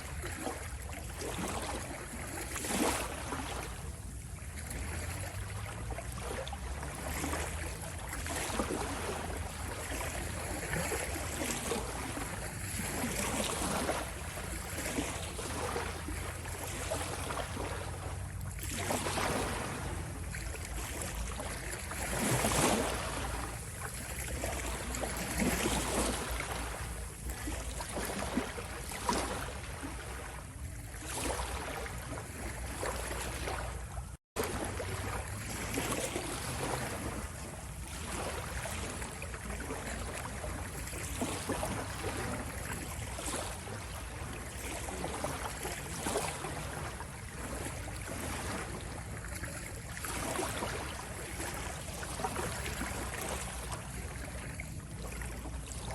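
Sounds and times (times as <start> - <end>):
ocean waves washing: 0.0 - 55.9.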